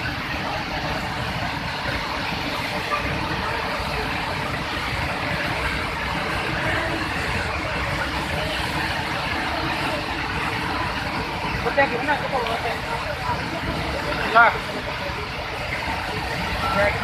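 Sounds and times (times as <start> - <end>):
water rushing through dam spillway: 0.0 - 17.0.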